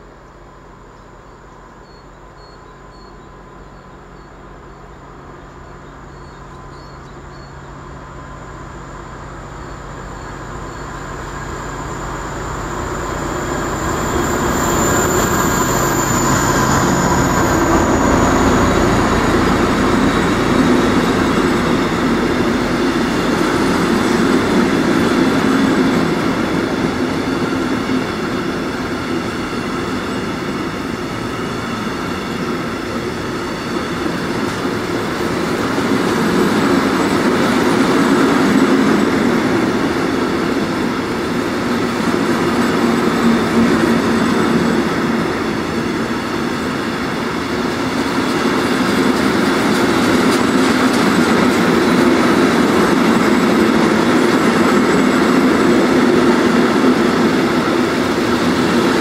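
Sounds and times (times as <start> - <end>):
diesel locomotive passing: 0.0 - 59.0
train wheels rumbling and clattering: 1.6 - 59.0.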